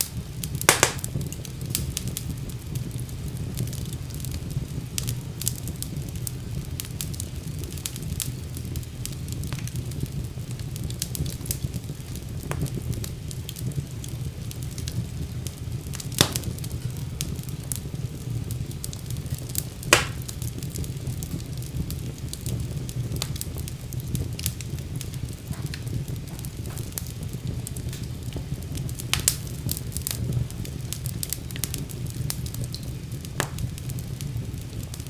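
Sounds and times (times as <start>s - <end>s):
fire crackling: 0.0s - 35.0s
fire popping: 0.0s - 35.0s
fire rumbling: 0.0s - 35.0s.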